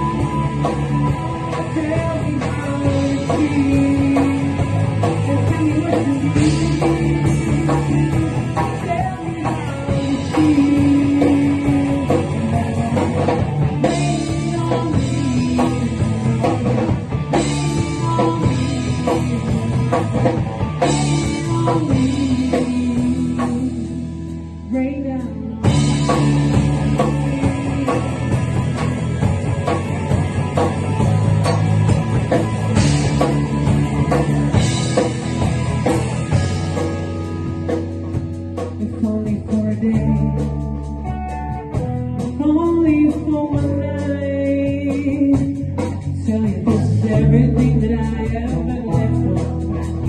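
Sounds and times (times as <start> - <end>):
lead guitar melody: 0.0 - 50.0
rock band playing instrumental: 0.0 - 50.0.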